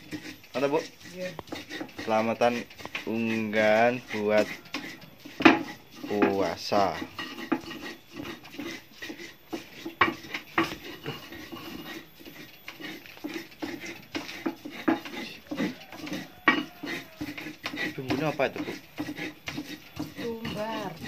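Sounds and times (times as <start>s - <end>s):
stone mortar knocking: 0.0s - 21.0s
cookware scraping and knocking: 1.4s - 21.0s.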